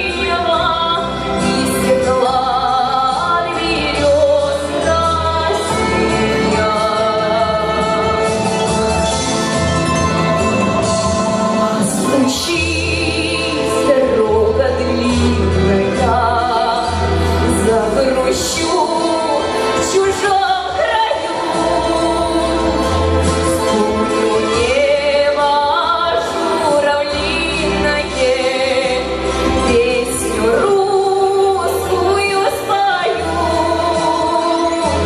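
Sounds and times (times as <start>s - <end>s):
instrumental backing with bass: 0.0s - 35.0s
woman singing with vibrato: 0.0s - 35.0s.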